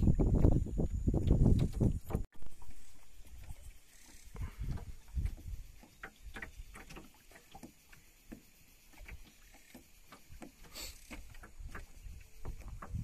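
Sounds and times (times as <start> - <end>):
water knocking against metal boat: 0.4 - 2.7, 4.5 - 13.0.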